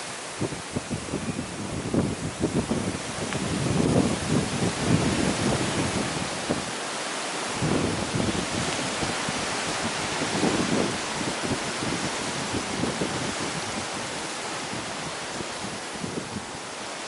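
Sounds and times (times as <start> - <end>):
gusty wind on microphone: 0.0 - 17.0.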